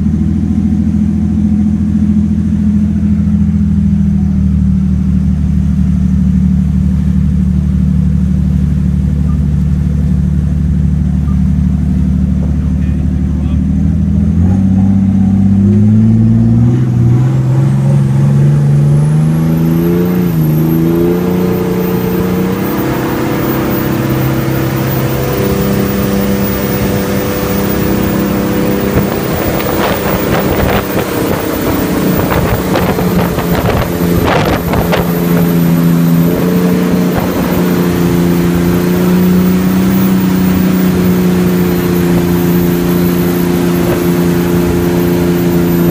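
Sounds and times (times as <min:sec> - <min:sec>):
boat engine revving: 0:03.8 - 0:45.9.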